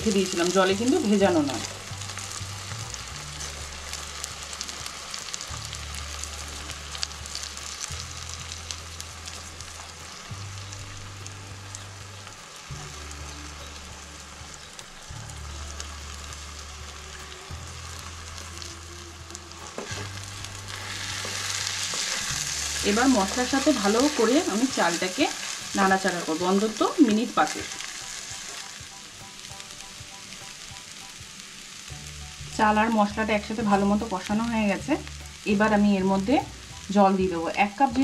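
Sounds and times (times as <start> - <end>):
rice sizzling in oil: 0.0 - 38.0
soft background music: 0.0 - 38.0.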